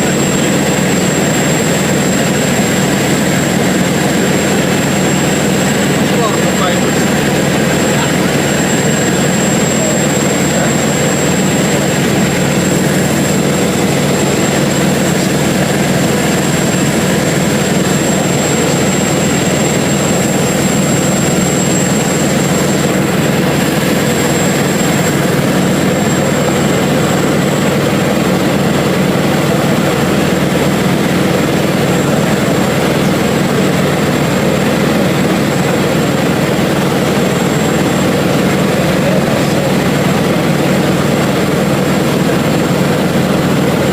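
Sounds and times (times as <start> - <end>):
propeller plane engine droning: 0.0 - 43.9
thin high whine: 0.0 - 43.9.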